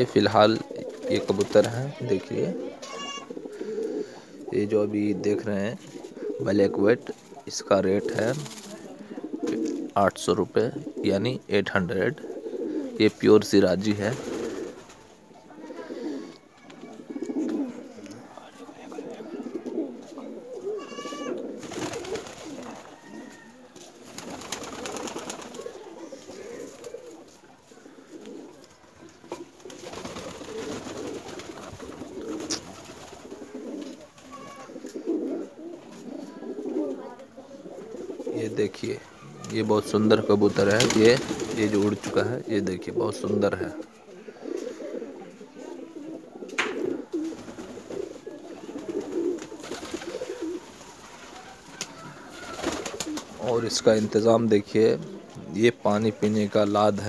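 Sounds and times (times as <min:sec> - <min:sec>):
pigeons cooing: 0:00.0 - 0:56.6.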